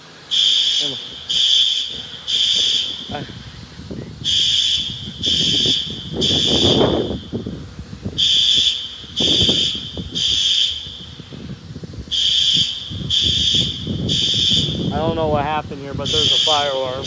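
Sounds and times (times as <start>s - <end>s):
fire alarm horn blasts: 0.0s - 17.0s.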